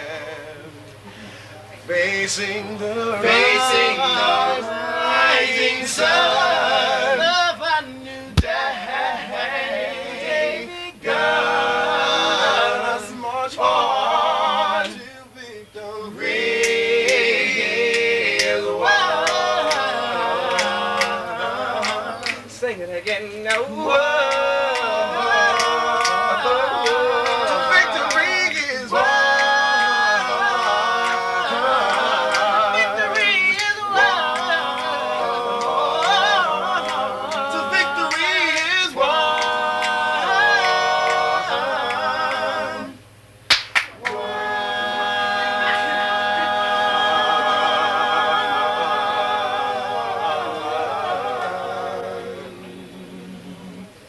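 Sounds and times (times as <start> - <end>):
male vocal group singing a cappella: 0.0 - 43.2, 44.0 - 54.0.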